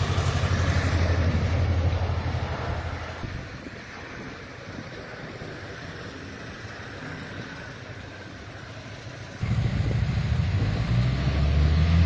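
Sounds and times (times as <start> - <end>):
loud low vehicle rumble: 0.0 - 12.0
wind and road noise hiss: 0.0 - 12.0.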